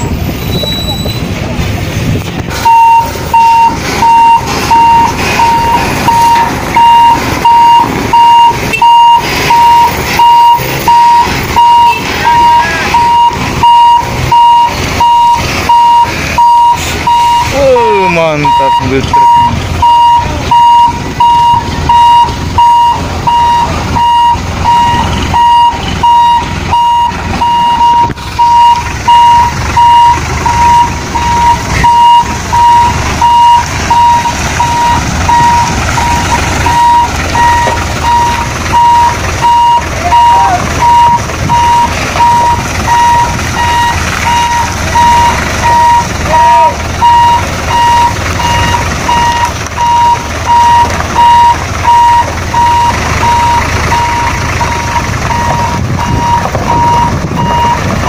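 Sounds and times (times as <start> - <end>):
diesel engine running: 0.0 - 58.0
reversing alarm beeping: 2.6 - 57.9.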